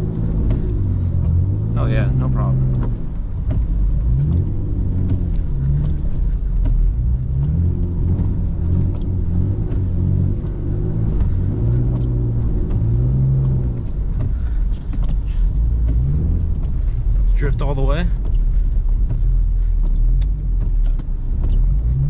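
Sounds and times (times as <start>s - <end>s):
car engine revving in snow: 0.0s - 22.0s
light knocks and clicks: 2.6s - 17.4s, 18.1s - 22.0s.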